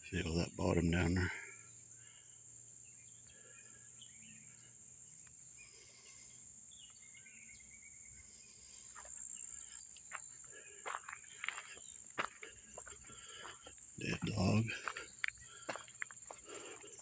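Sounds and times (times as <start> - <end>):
faint bird chirps: 0.0 - 17.0
insect chorus drone: 0.0 - 17.0.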